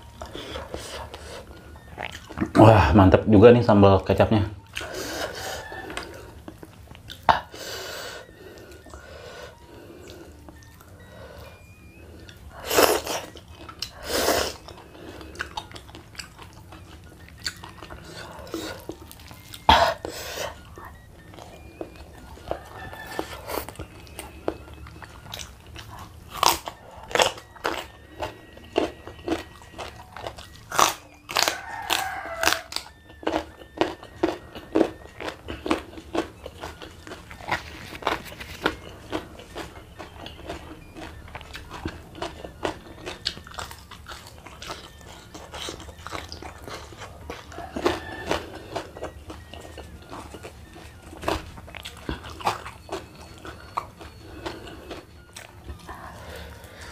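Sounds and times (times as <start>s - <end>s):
person crunching and chewing food: 0.0s - 56.9s.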